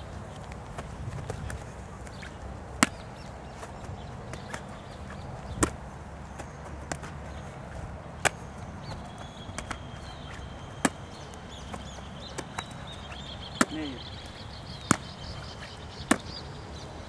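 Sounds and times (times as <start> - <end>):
steady low background noise: 0.0 - 17.0
football smacking into gloves: 0.5 - 16.4.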